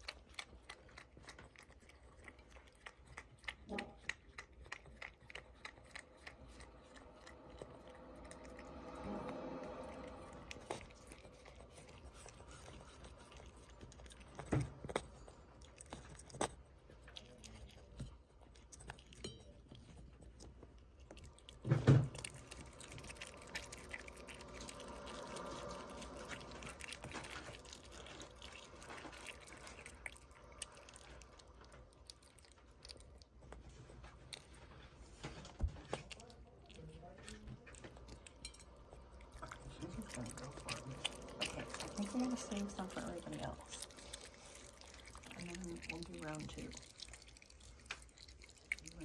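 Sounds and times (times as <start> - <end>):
animal chewing and crunching shells: 0.0 - 49.0.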